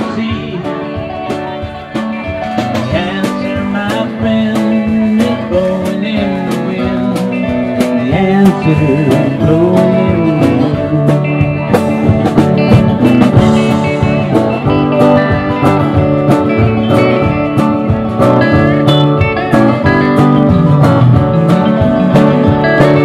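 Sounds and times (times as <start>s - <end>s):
country band instrumental: 0.0s - 23.0s
slide guitar: 0.0s - 23.0s
steady drum beat: 0.0s - 23.0s.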